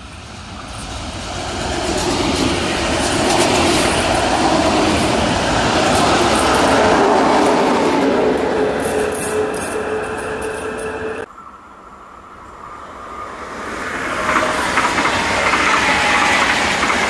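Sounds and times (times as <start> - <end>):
train wheels rumbling on rails: 0.0 - 11.3, 13.4 - 17.0.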